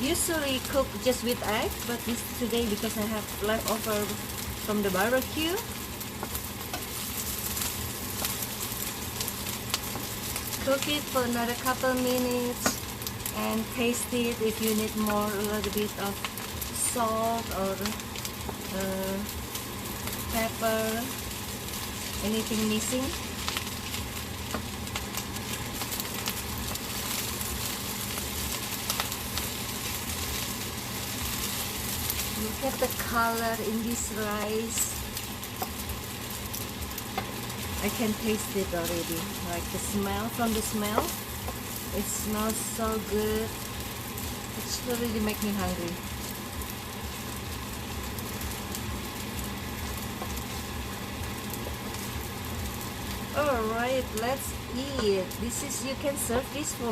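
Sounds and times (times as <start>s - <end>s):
rice sizzling in a pan: 0.0s - 56.9s.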